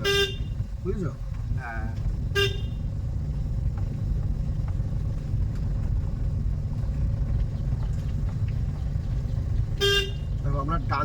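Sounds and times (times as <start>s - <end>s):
car engine rumbling: 0.0s - 11.0s
road noise: 0.0s - 11.0s.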